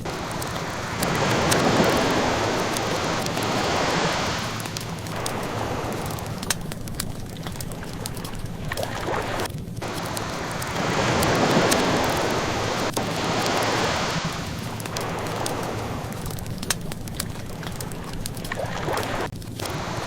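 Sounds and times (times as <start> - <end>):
ocean waves washing in: 0.0 - 20.0
wood fire crackling and popping: 0.0 - 20.0.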